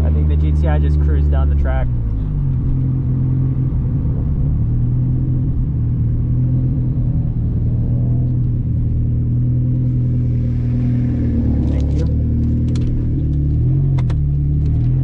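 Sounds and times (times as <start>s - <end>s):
car engine droning steadily: 0.0s - 15.0s.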